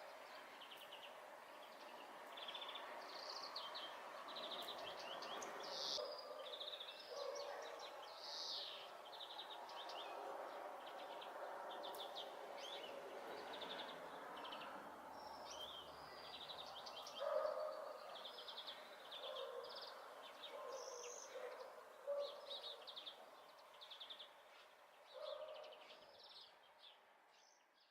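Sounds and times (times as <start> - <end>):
faint background noise: 0.0 - 27.9.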